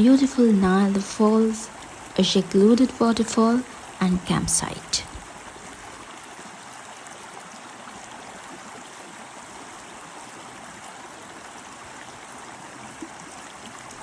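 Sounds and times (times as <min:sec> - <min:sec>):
stream rushing over rocks: 0:00.1 - 0:14.0.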